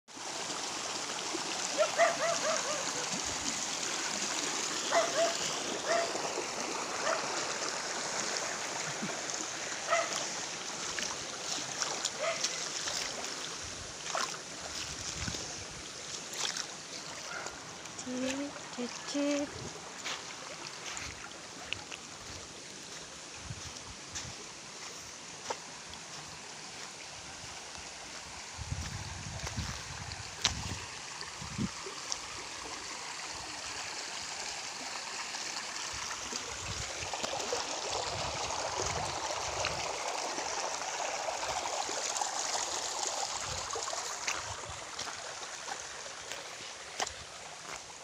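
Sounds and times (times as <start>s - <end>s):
stream water running over rocks: 0.1s - 48.0s.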